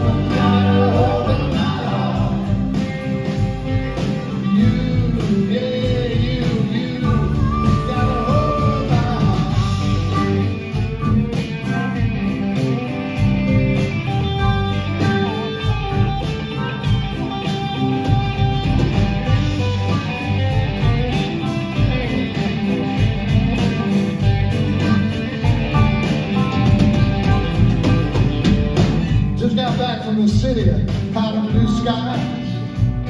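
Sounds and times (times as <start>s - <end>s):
bass guitar: 0.0s - 33.0s
electric guitar playing: 0.0s - 33.0s
steady drum beat: 0.0s - 33.0s.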